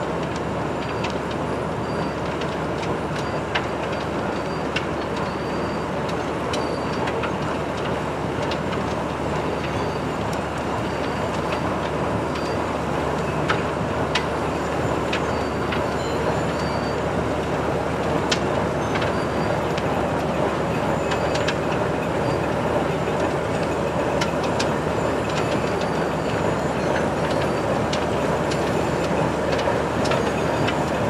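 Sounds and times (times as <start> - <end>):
train mechanical noise: 0.0 - 31.0.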